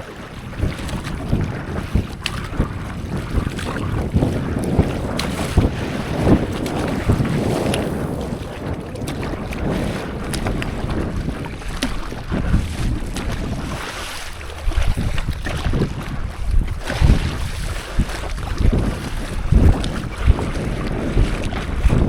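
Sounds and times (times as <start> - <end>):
water splashing and lapping: 0.0 - 22.0
wind buffeting microphone: 0.0 - 22.0.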